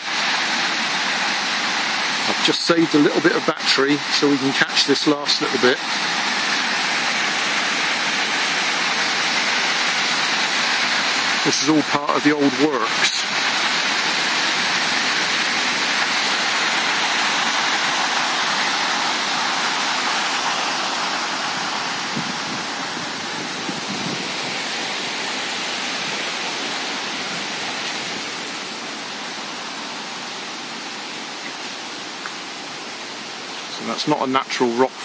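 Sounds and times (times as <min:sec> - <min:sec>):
water rushing over a weir: 0:00.0 - 0:35.0.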